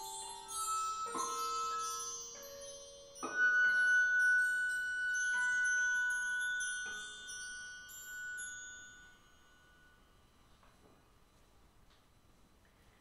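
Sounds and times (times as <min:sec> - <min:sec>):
high bell-like ringing notes: 0:00.0 - 0:10.6.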